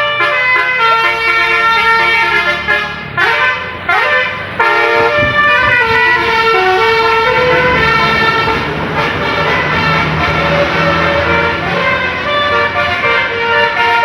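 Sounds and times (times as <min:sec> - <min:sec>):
multi-tone bus horn tune: 0:00.0 - 0:14.0.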